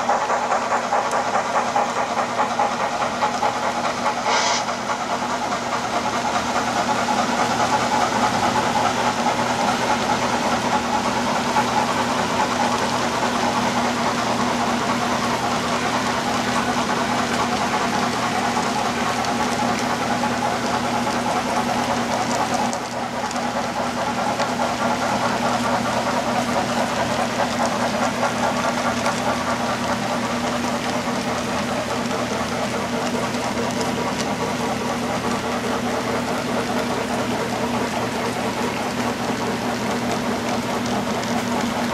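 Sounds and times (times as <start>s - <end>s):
model train wheels clattering on rail: 0.0s - 41.9s.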